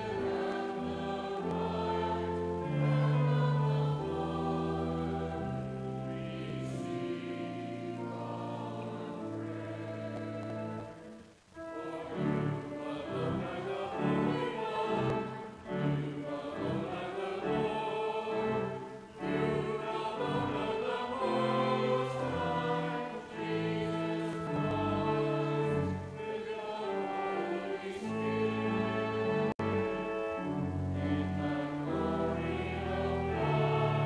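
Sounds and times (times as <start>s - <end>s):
congregation singing: 0.0s - 34.0s
organ chords: 0.0s - 34.0s.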